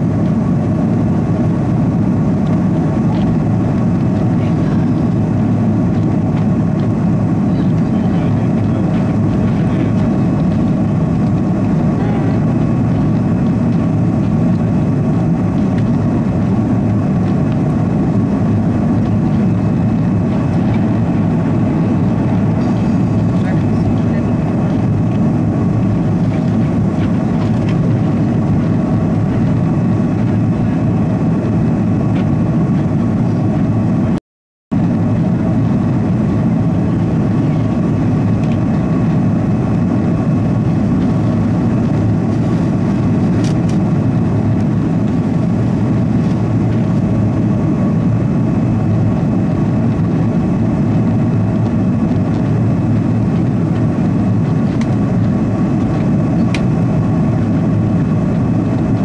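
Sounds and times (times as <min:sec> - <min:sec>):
jet engine noise inside cabin: 0:00.0 - 0:59.0.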